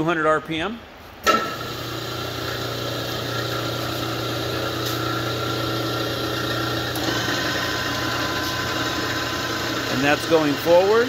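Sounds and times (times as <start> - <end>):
lathe humming: 1.3 - 11.0.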